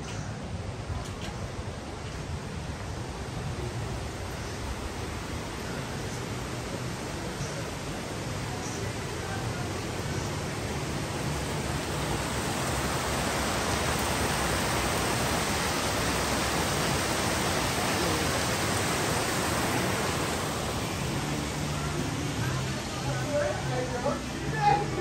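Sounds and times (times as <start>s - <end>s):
stream rushing over rocks: 0.4s - 25.0s.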